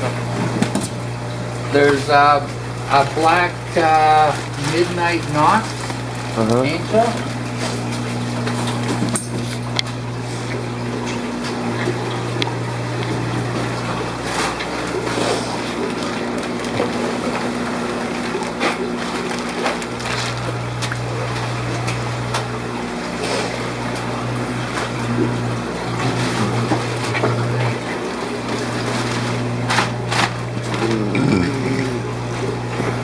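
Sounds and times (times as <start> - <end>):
running water: 0.0 - 33.0
water pumps humming: 0.0 - 33.0.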